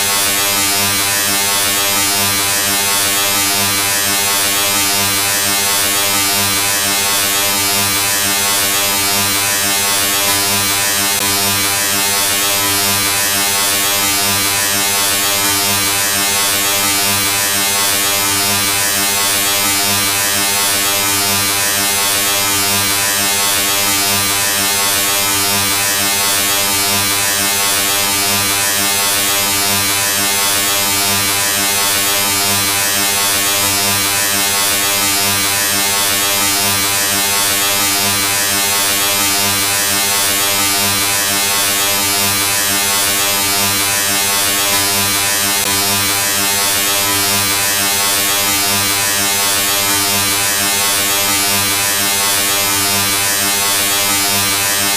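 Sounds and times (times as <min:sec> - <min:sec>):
electric buzz: 0:00.0 - 0:54.9.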